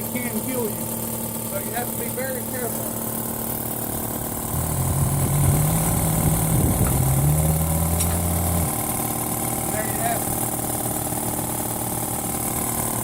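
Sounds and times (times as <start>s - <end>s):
background machine hum: 0.0s - 13.0s
electric motor humming: 0.8s - 13.0s.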